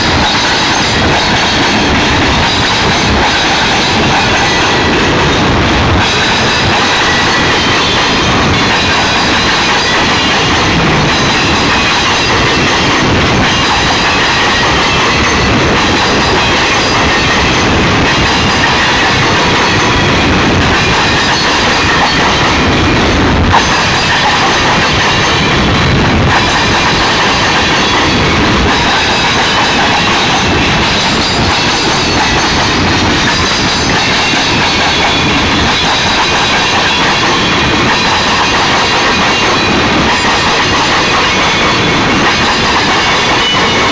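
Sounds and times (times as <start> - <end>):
train wheels rolling on rail: 0.0 - 43.9.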